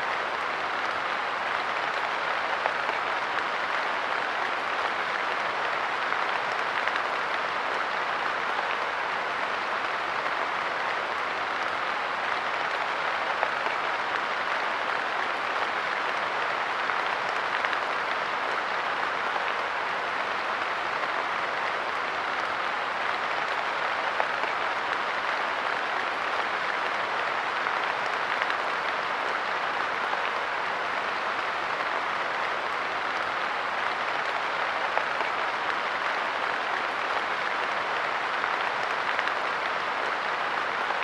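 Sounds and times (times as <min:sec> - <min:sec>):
light rain patter: 0:00.0 - 0:41.0.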